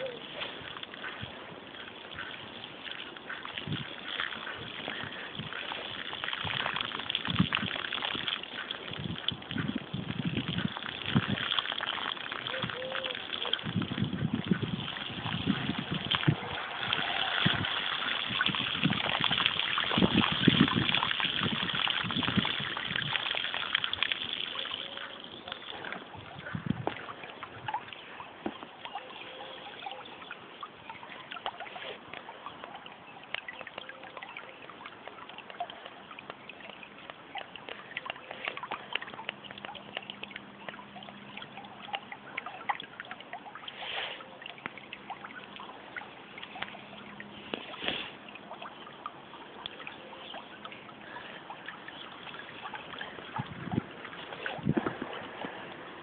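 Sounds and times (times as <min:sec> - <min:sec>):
water rushing into drain: 0:00.0 - 0:28.2, 0:30.8 - 0:56.0
small water splashes: 0:00.0 - 0:56.0.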